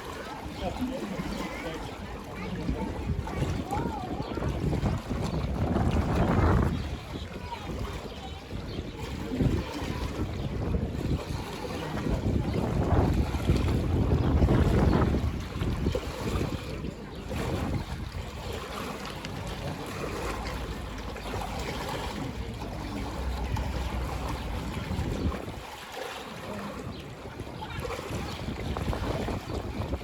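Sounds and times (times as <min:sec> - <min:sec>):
wind rumbling on microphone: 0:00.0 - 0:25.9, 0:26.5 - 0:30.0
ocean waves breaking: 0:00.0 - 0:30.0.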